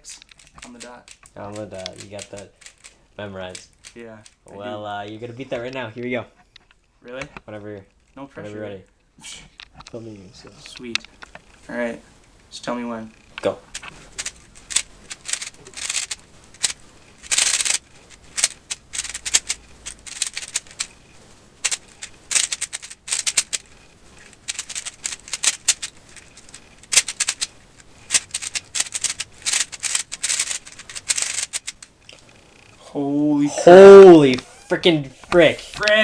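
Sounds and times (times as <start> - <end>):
puzzle cube clicking and clacking: 0.0 - 8.0, 10.6 - 11.8, 12.8 - 32.8.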